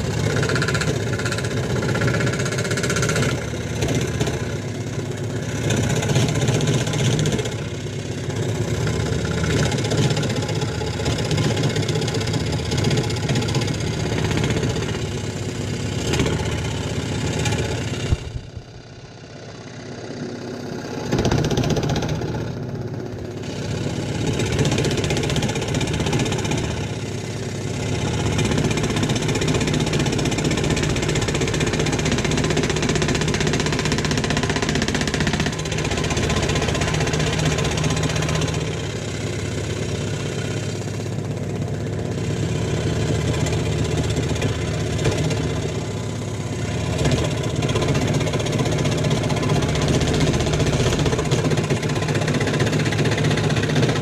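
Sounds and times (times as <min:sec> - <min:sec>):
scroll saw cutting wood: 0:00.0 - 0:54.0.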